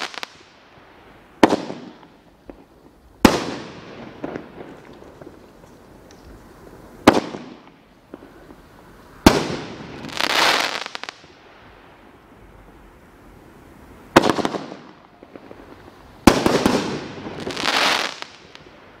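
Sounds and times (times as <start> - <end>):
firework bangs: 0.0 - 11.8, 14.0 - 19.0
firework crackling: 0.0 - 19.0.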